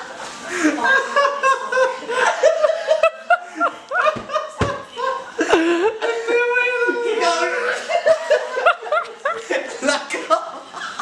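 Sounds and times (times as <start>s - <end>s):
group of people laughing: 0.4s - 11.0s.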